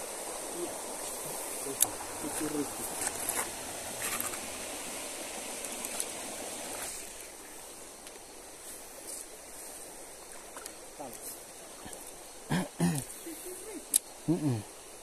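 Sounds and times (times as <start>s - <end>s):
river water rushing: 0.0s - 13.8s.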